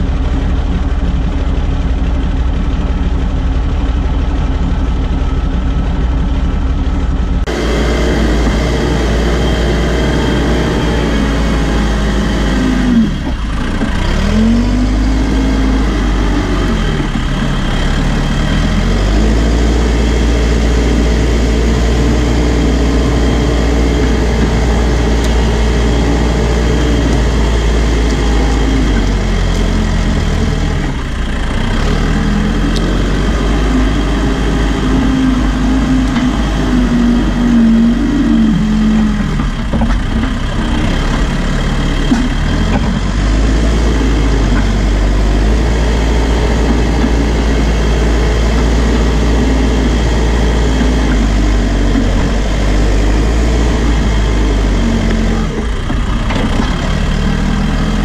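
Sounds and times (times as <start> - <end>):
diesel engine running: 0.0 - 58.0
loader bucket pushing dirt: 0.0 - 58.0.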